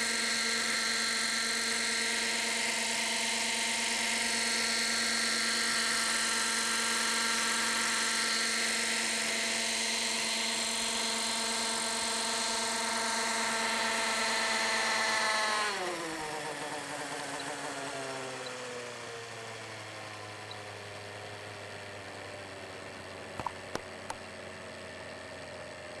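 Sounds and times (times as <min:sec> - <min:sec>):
model helicopter engine and rotor: 0:00.0 - 0:26.0.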